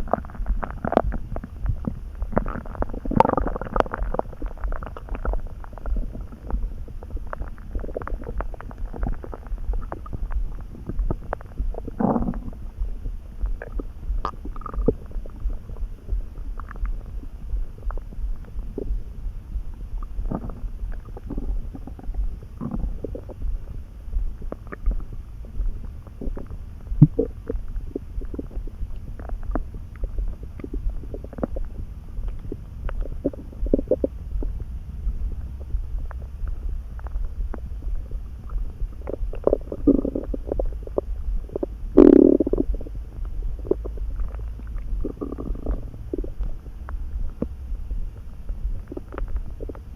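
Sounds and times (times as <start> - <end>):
stomach rumbling and gurgling: 0.0 - 49.9.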